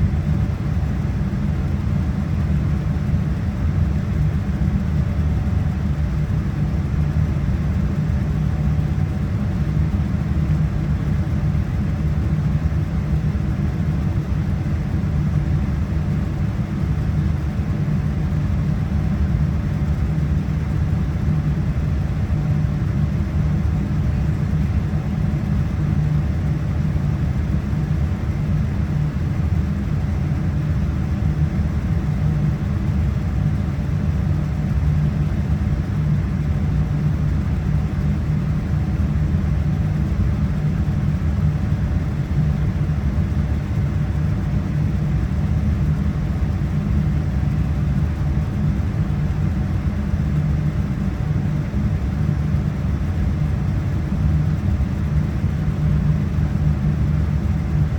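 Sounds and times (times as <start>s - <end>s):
jet engine rumble in cabin: 0.0s - 57.9s.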